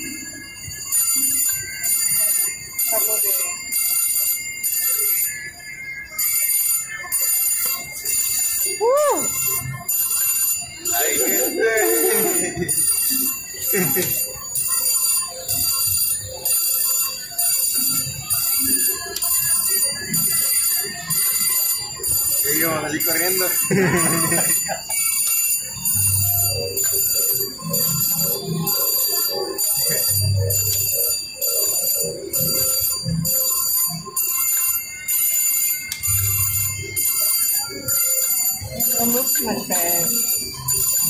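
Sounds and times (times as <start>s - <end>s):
slot machine chimes: 0.0s - 41.0s.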